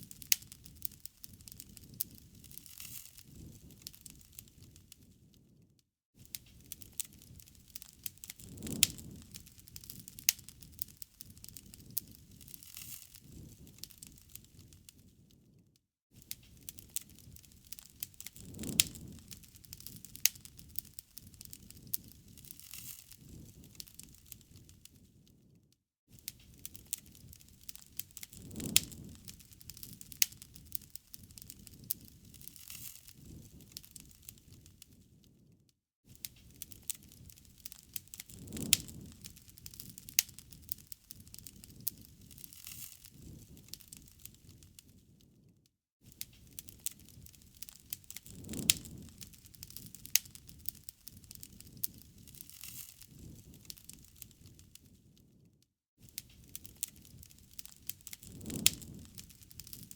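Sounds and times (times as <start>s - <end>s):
bonfire crackling and popping: 0.0s - 5.6s, 6.2s - 15.6s, 16.2s - 59.9s.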